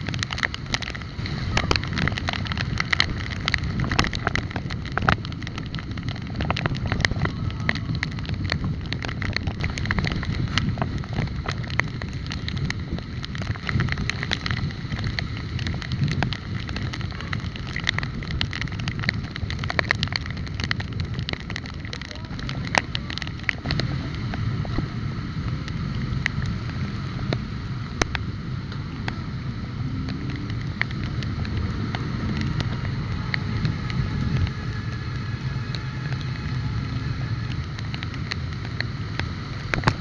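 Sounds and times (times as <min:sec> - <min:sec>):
low road rumble: 0:00.0 - 0:40.0
wind buffeting microphone: 0:00.0 - 0:40.0.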